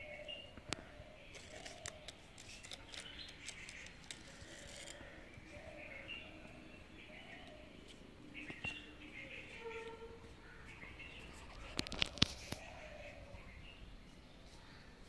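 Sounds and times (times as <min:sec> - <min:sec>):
birds calling and chirping: 0:00.0 - 0:15.0.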